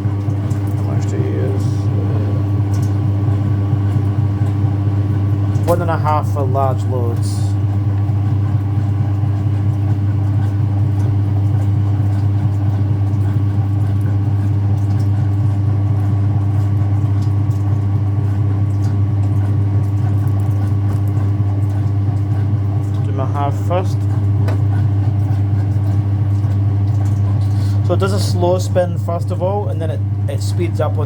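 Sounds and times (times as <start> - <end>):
washing machine motor hum: 0.0 - 31.0.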